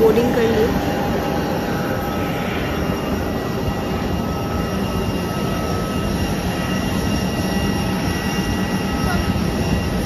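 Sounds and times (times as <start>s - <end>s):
jet engine rushing and whining: 0.0s - 10.0s.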